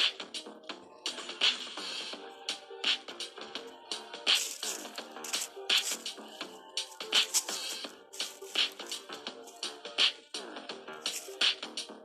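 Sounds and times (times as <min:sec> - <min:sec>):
music with a steady beat: 0:00.0 - 0:12.0.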